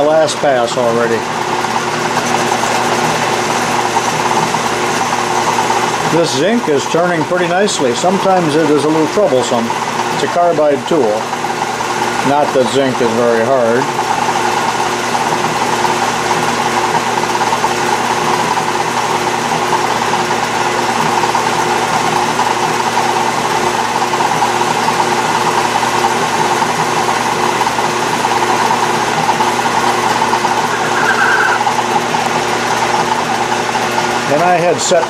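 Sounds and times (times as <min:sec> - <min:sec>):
metal lathe running: 0:00.0 - 0:35.0.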